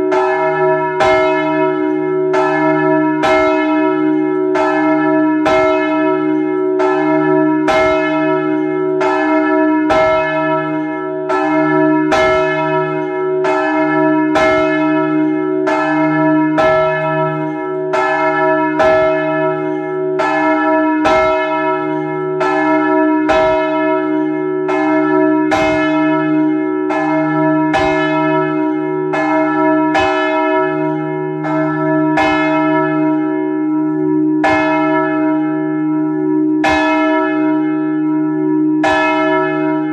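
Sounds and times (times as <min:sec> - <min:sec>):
church bells ringing together: 0:00.0 - 0:39.9.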